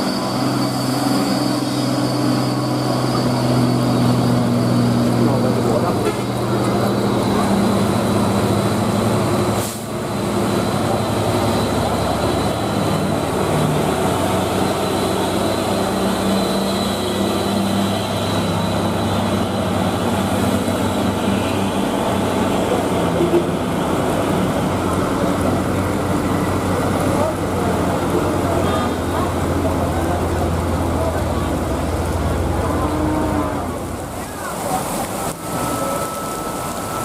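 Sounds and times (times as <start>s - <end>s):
diesel truck engines droning: 0.0s - 37.0s.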